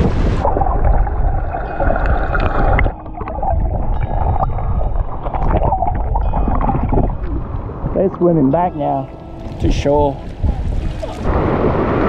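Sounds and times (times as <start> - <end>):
water splashing against hull: 0.0 - 12.0
wind buffeting microphone: 0.0 - 12.0.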